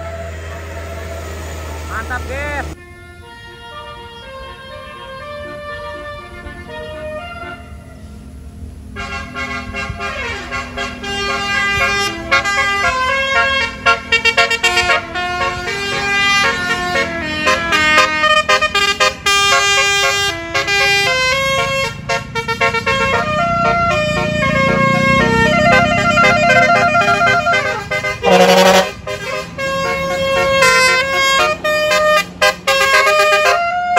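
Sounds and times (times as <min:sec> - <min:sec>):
engine and traffic rumble: 0:00.0 - 0:33.9
musical air horn tune: 0:02.8 - 0:08.3, 0:08.9 - 0:33.9.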